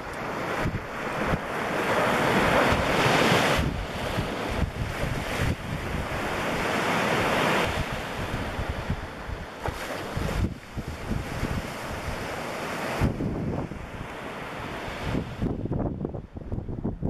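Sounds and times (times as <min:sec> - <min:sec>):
waves on choppy water: 0:00.0 - 0:17.0
wind buffeting microphone: 0:00.0 - 0:17.0.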